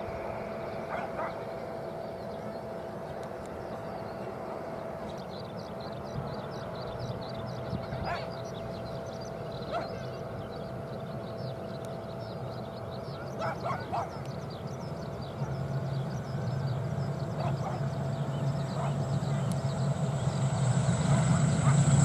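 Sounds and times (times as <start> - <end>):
turboprop airliner taxiing: 0.0 - 22.0.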